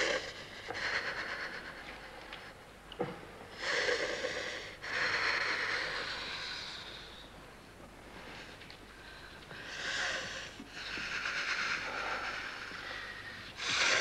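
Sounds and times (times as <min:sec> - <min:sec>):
woman breathing heavily: 0:00.0 - 0:02.6, 0:03.5 - 0:07.4, 0:08.1 - 0:14.0.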